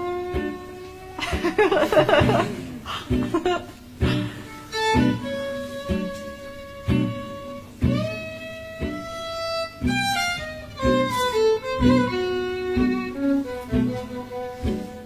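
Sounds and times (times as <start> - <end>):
acoustic guitar chords: 0.0 - 15.0
violin melody: 0.0 - 15.0.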